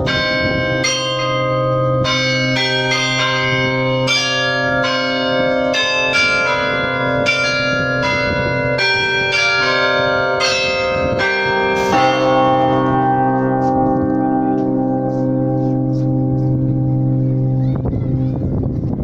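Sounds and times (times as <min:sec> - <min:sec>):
carillon bells playing a tune: 0:00.0 - 0:18.6
low bell tone: 0:00.0 - 0:19.0.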